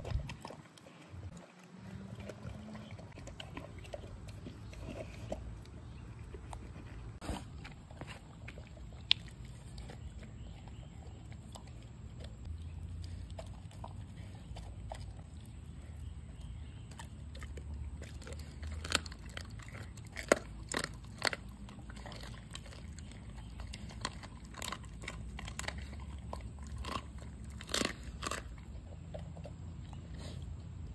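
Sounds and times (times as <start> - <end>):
dog chewing and crunching: 0.0 - 30.9.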